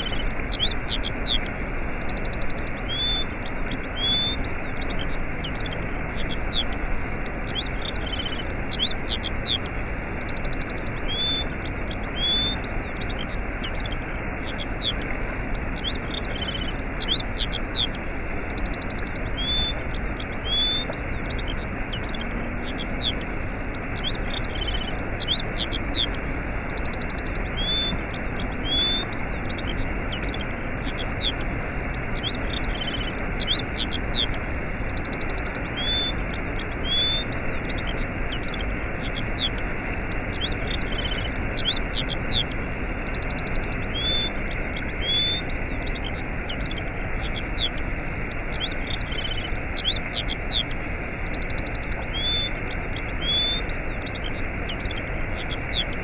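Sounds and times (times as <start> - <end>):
small birds chirping: 0.0 - 56.0
waterfall rushing: 0.0 - 56.0.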